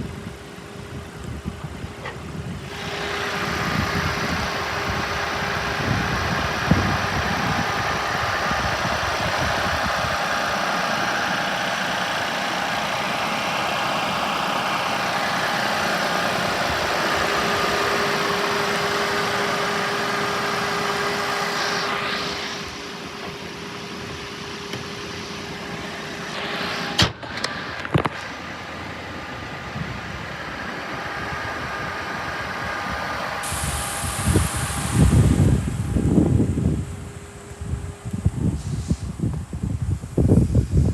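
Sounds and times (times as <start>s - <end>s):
car engine idling: 0.0s - 40.9s
fan-like hiss: 1.1s - 40.9s.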